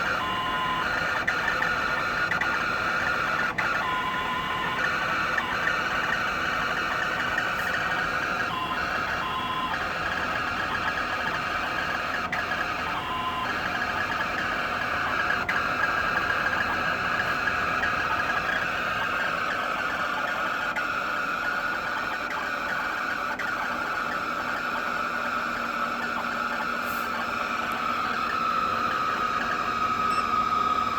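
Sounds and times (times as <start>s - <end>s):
air conditioner harsh whir: 0.0s - 30.9s.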